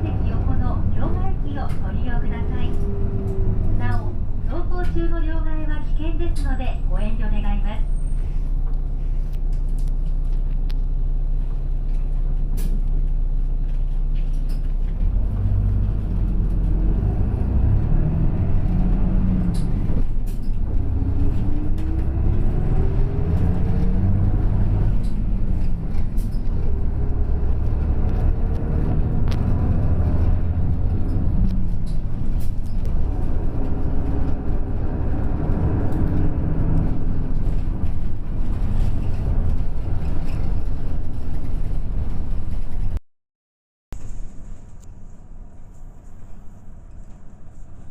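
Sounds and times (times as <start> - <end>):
diesel bus engine: 0.0 - 43.0.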